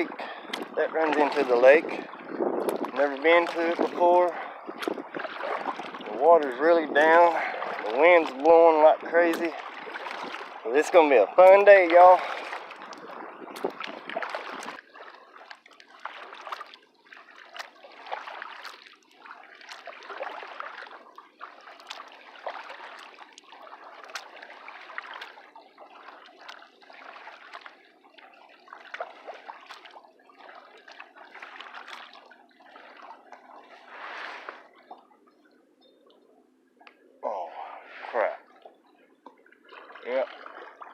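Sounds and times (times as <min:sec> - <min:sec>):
kayak paddle splashing water: 0:00.0 - 0:35.1, 0:37.2 - 0:40.9.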